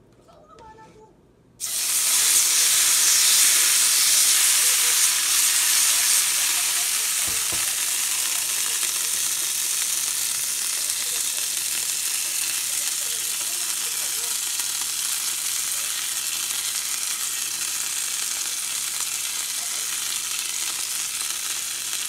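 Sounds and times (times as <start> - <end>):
margarine sizzling in frying pan: 1.6 - 22.0.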